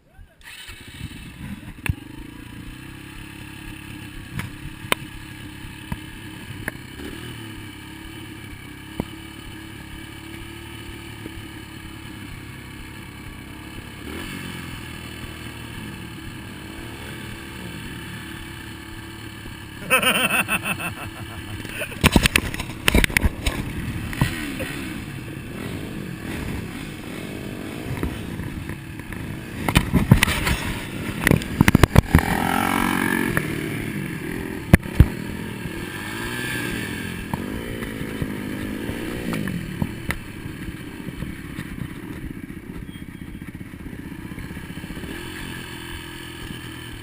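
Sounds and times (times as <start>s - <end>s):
dirt bike engine revving: 0.4s - 47.0s.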